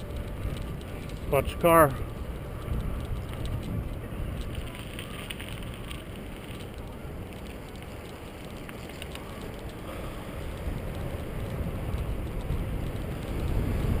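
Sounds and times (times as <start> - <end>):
bicycle tyre noise: 0.0 - 14.0
wind buffeting microphone: 0.0 - 14.0.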